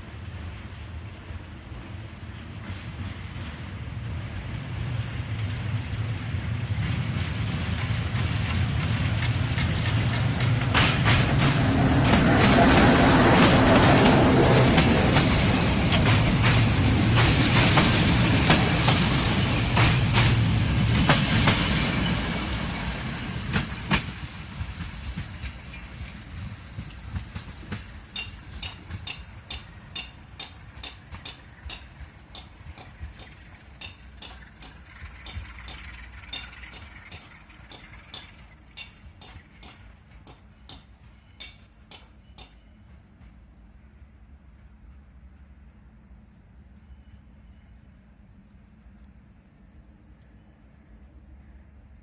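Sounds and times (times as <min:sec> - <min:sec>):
train rumbling: 0:00.0 - 0:52.0
train wheels clicking over joints: 0:02.2 - 0:43.8.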